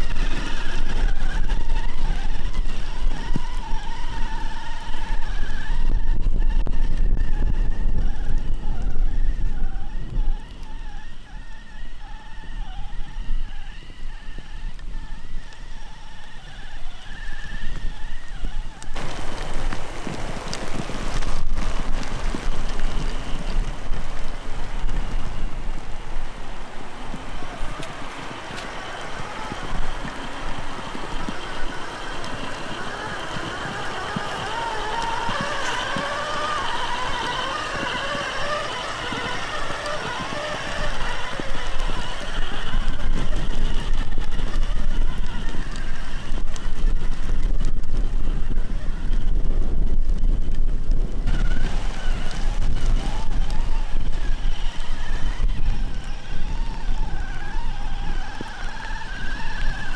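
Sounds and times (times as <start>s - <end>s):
electric motor whining: 0.0s - 59.9s.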